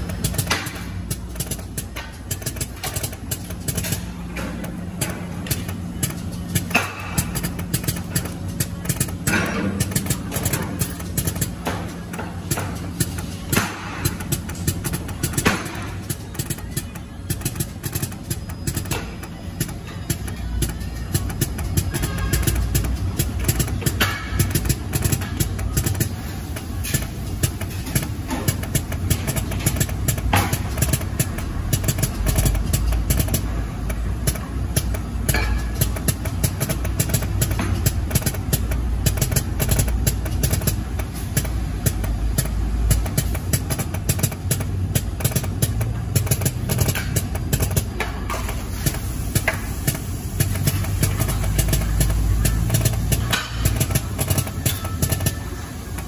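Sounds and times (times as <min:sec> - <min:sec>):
fast irregular clicks: 0:00.0 - 0:56.0.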